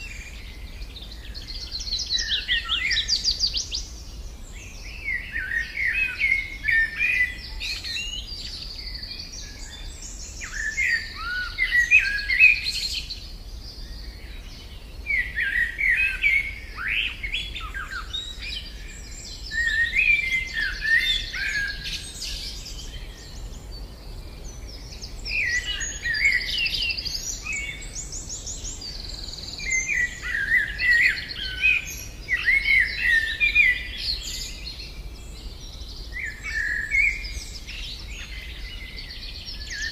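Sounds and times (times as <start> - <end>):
chaffinch singing: 0.0 - 39.9.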